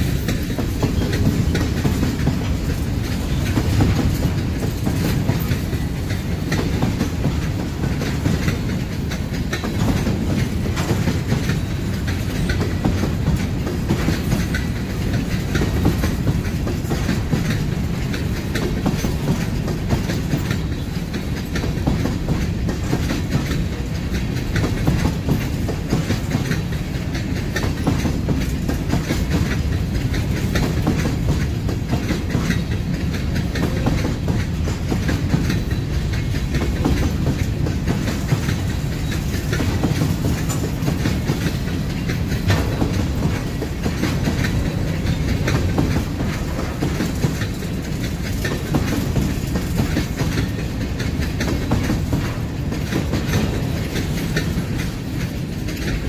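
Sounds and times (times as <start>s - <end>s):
freight train rumbling: 0.0s - 56.0s
wheels clacking over rail joints: 0.0s - 56.0s.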